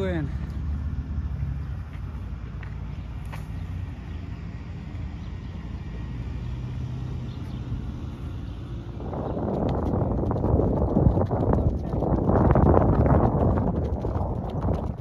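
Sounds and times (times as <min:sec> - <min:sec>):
hoof steps on dirt: 0:00.0 - 0:15.0
wind rumbling on microphone: 0:00.0 - 0:15.0.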